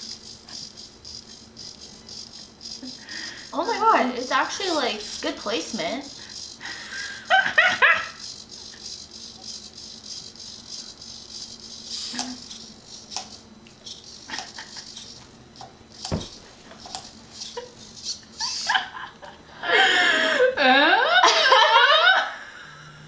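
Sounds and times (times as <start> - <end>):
small motors rattling: 0.0 - 19.0.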